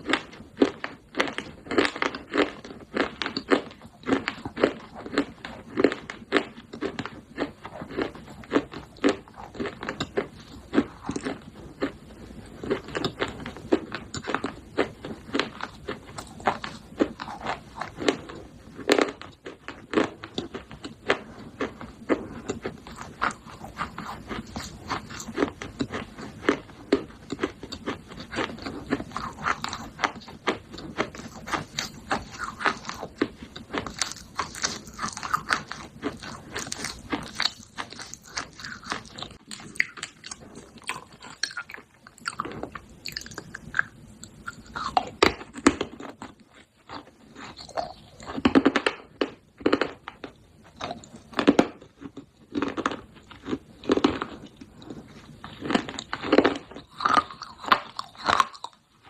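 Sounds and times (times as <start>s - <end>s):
clay crunching while chewed: 0.0s - 59.0s.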